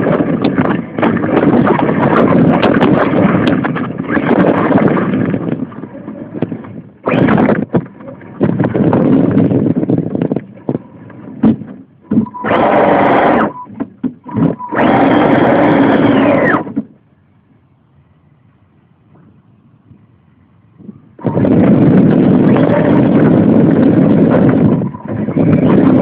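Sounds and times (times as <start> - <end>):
wind rushing on microphone: 0.0 - 17.5, 18.1 - 26.0.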